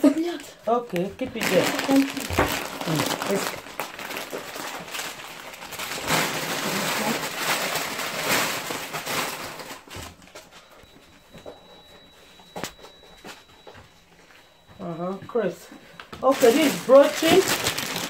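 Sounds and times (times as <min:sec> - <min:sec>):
hands rustling packaging: 0:00.9 - 0:14.6, 0:15.9 - 0:18.0.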